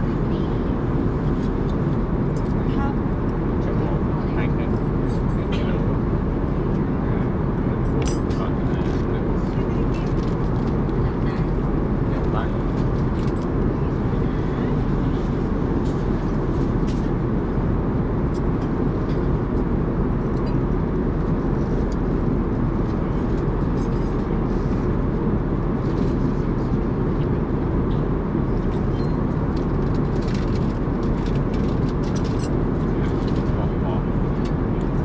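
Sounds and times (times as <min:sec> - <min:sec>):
airplane cabin engine rush: 0:00.0 - 0:35.0.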